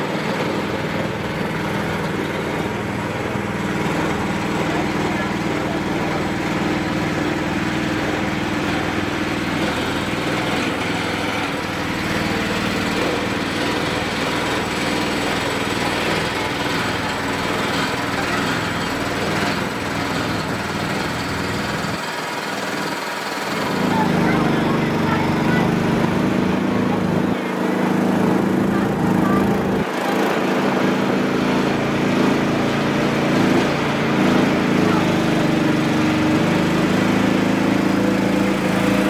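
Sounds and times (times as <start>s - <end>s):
small engine running: 0.0s - 39.0s.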